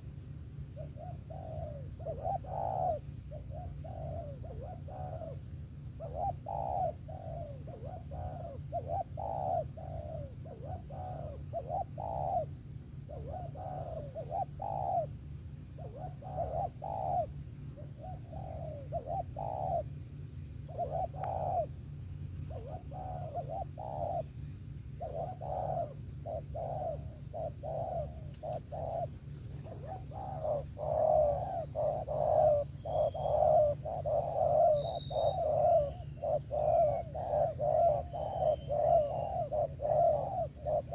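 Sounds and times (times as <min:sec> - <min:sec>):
dove cooing: 0:00.0 - 0:40.9
small bird chirping: 0:00.0 - 0:40.9.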